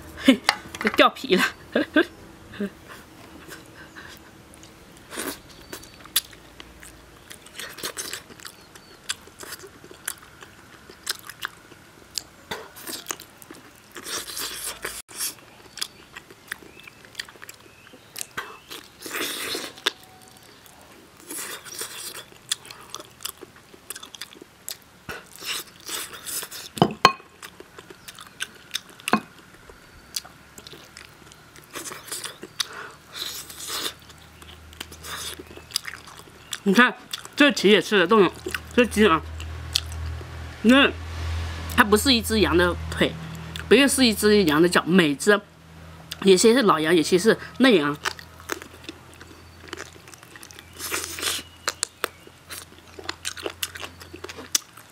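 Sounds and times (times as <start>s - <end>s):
chewing and gnawing: 2.9s - 37.5s, 38.1s - 40.4s, 47.4s - 54.9s.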